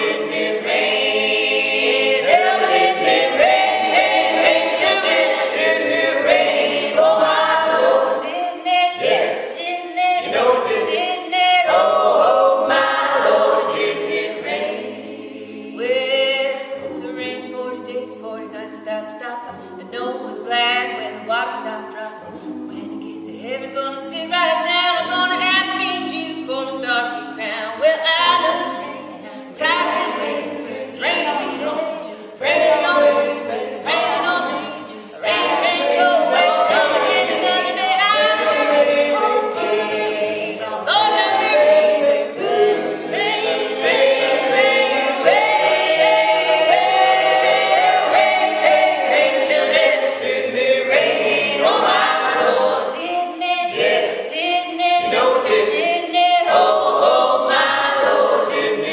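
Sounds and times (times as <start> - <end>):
a cappella choir singing: 0.0 - 58.9.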